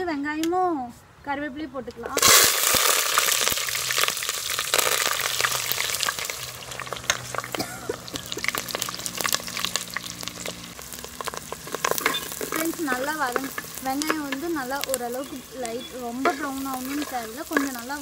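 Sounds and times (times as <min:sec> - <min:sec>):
frying with sharp crackles: 0:02.1 - 0:18.0
food sizzling in hot oil: 0:02.2 - 0:18.0.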